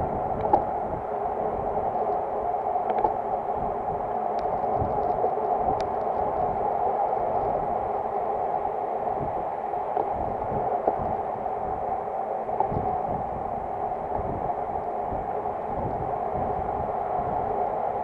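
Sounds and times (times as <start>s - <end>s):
wind buffeting microphone: 0.0s - 8.0s, 9.1s - 18.0s.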